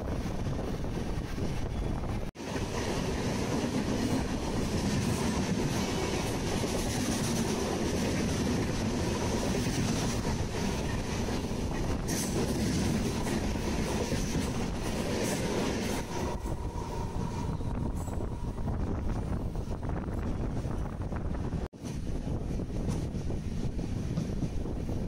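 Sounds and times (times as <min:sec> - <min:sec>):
train rumbling and clattering past: 0:00.0 - 0:25.0.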